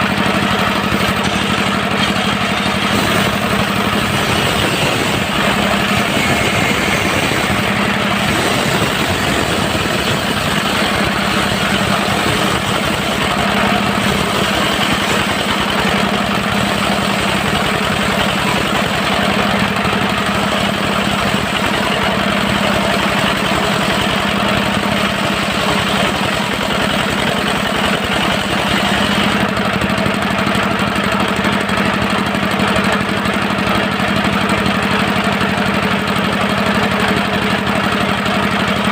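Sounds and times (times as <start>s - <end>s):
diesel engine driving a sawmill: 0.0s - 38.9s.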